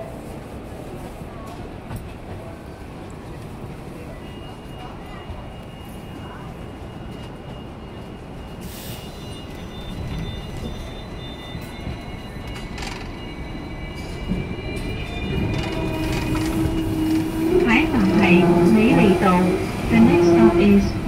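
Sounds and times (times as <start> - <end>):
tram wheels rumbling on track: 0.0 - 21.0.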